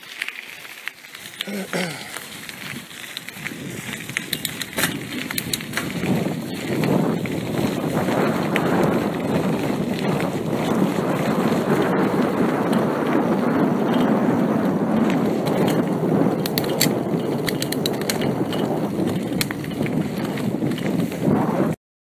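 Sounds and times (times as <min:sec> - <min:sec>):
crackles and clicks from path: 0:00.0 - 0:21.8
wheels rumbling on rough path: 0:00.0 - 0:21.8
wind on microphone: 0:01.8 - 0:21.8.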